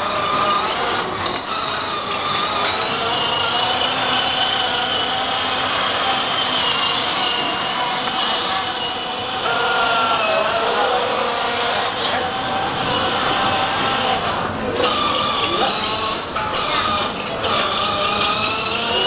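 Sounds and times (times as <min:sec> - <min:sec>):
toy vehicle electric motor whine: 0:00.0 - 0:19.0.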